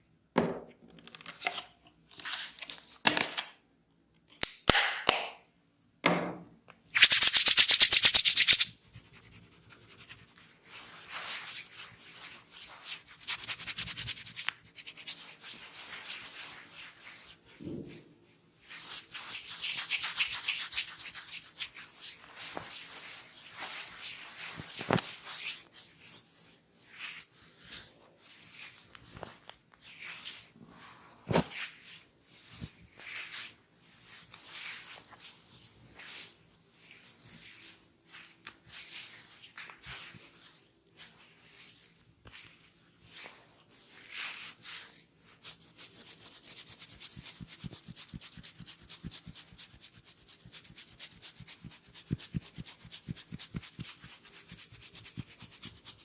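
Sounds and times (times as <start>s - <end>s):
scratching of hair and scalp: 7.0s - 17.6s, 18.6s - 56.0s.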